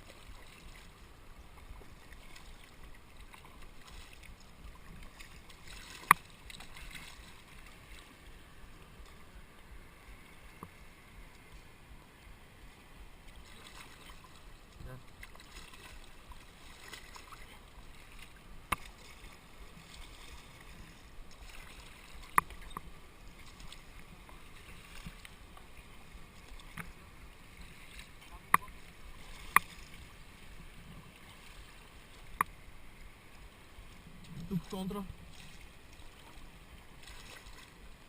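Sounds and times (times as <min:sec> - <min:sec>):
water hissing around kayak: 0:00.0 - 0:38.0.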